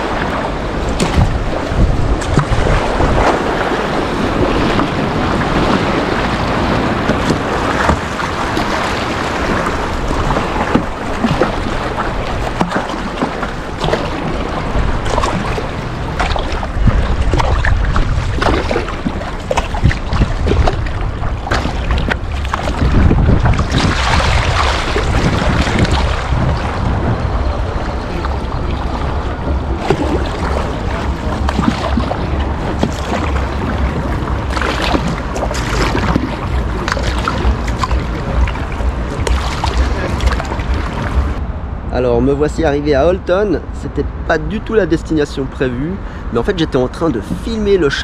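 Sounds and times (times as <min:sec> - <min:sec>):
river water rushing and splashing: 0:00.0 - 0:48.0
wind buffeting microphone: 0:00.0 - 0:48.0.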